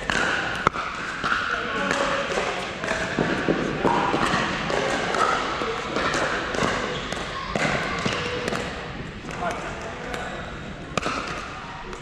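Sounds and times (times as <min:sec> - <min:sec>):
balls bouncing on court: 0:00.0 - 0:12.0
murmur of voices: 0:00.0 - 0:12.0
paddles hitting balls: 0:00.0 - 0:12.0.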